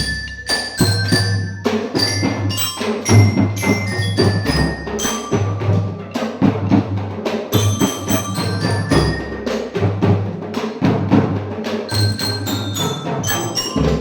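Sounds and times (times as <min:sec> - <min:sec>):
metal mallet instrument notes: 0:00.0 - 0:10.2, 0:11.6 - 0:14.0
low drum beats: 0:00.0 - 0:14.0.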